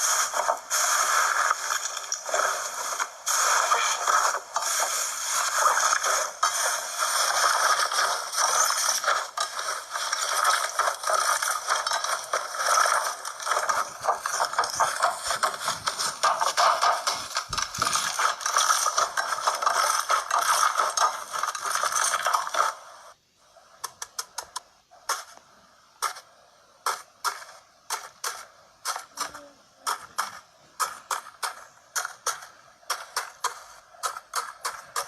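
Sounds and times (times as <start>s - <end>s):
sharp clicks and pops: 0.0s - 23.2s, 23.8s - 35.0s.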